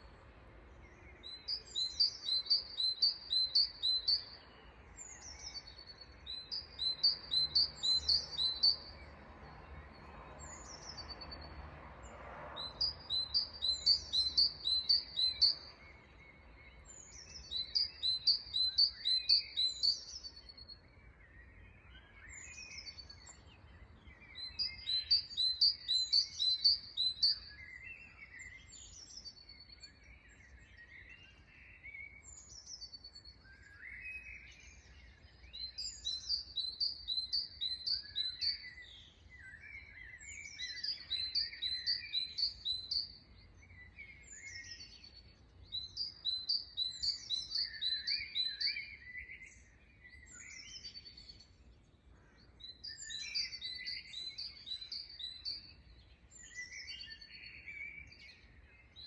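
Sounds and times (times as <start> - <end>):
songbird high chirping phrase: 0.0 - 11.6, 12.6 - 59.0
other birds chirping quietly: 0.0 - 59.0.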